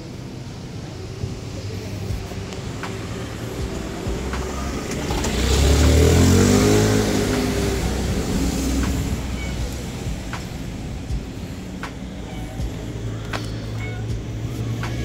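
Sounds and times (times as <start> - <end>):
car driving past: 0.4 - 15.0.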